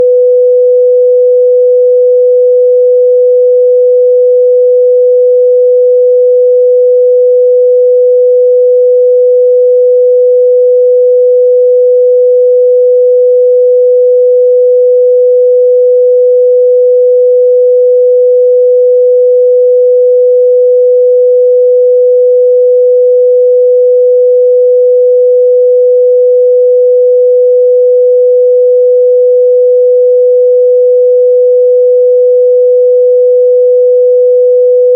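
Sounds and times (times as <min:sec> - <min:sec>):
pure sine test tone: 0:00.0 - 0:34.9.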